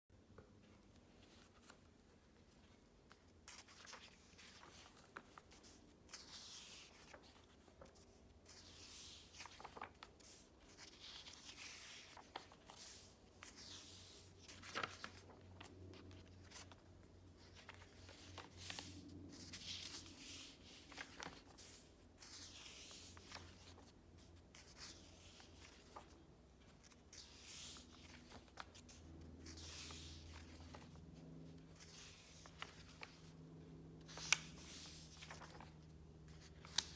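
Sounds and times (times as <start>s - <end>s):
paper pages turning: 0.7s - 36.9s.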